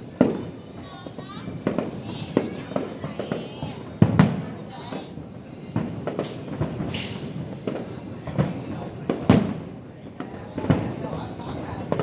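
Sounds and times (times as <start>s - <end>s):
firework hiss: 0.0s - 12.0s
fireworks bangs: 0.0s - 12.0s.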